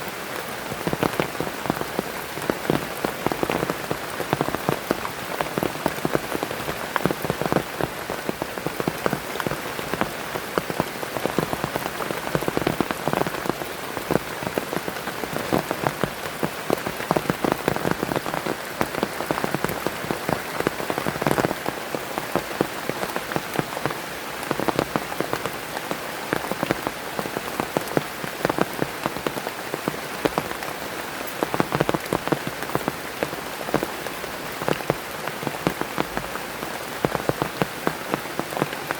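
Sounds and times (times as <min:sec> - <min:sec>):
heavy rain: 0:00.0 - 0:38.9
raindrops pattering on surface: 0:00.0 - 0:38.9.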